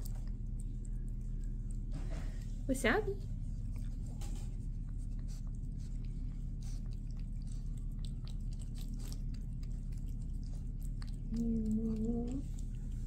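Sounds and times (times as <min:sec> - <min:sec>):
cat lapping: 0:00.0 - 0:02.6, 0:03.2 - 0:13.0
steady low hum: 0:00.0 - 0:13.0.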